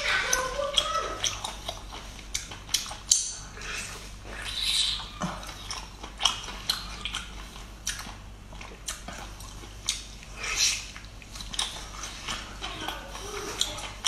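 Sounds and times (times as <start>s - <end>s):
wet chewing mouth sounds: 0.0s - 14.0s.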